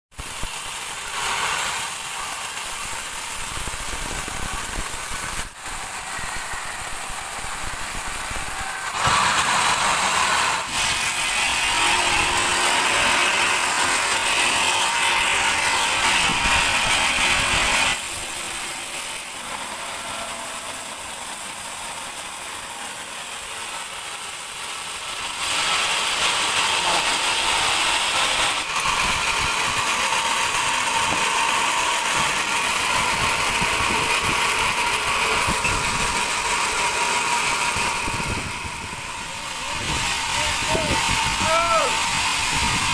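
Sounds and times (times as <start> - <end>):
band saw cutting log: 0.1 - 42.9.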